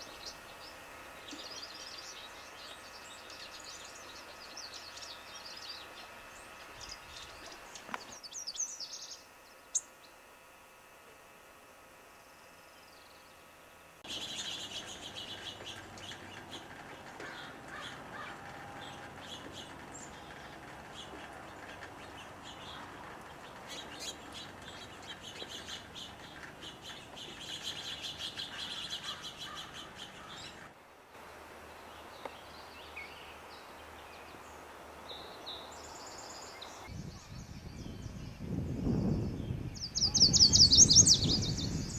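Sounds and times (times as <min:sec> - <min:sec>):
wild birds chirping and trilling: 0:00.0 - 0:10.2, 0:12.7 - 0:30.8, 0:31.6 - 0:37.4
steady background noise: 0:00.0 - 0:37.0.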